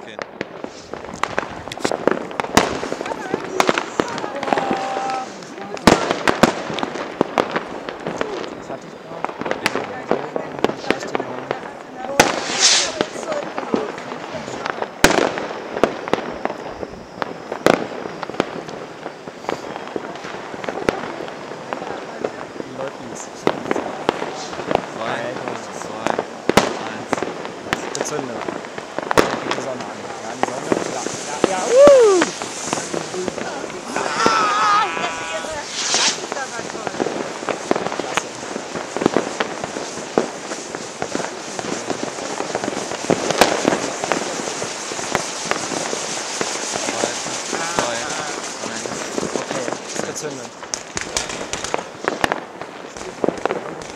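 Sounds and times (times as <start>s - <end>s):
fireworks exploding: 0.0s - 53.9s.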